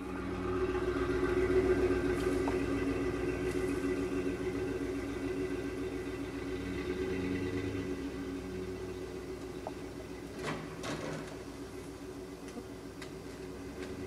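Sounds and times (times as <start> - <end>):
pickup truck engine driving away: 0.0 - 14.0.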